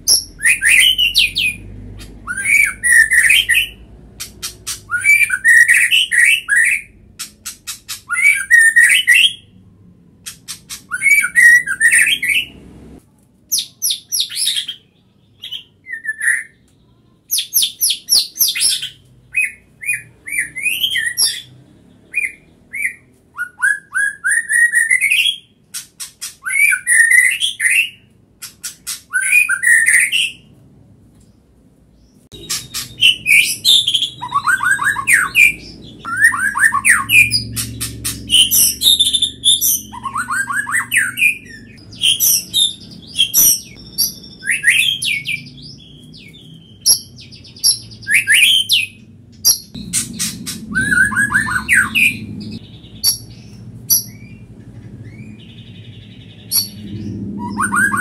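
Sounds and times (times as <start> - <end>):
bird singing: 0.0 - 9.6, 10.2 - 12.8, 13.5 - 25.6, 26.3 - 30.5, 31.9 - 58.0.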